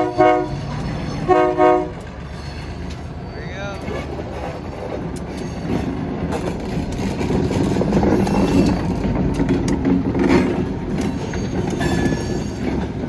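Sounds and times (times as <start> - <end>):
freight train rumbling past: 0.0 - 13.0
wheels clicking on rails: 0.0 - 13.0.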